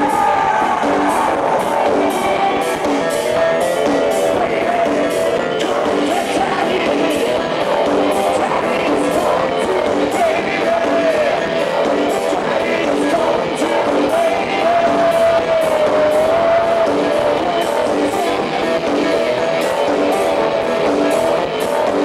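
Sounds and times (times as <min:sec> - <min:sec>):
live industrial rock band: 0:00.0 - 0:22.0
man singing and shouting: 0:00.0 - 0:22.0.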